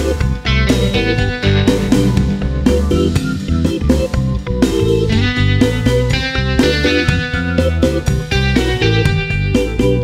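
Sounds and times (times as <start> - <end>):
guitar music with bass and beat: 0.0 - 10.0.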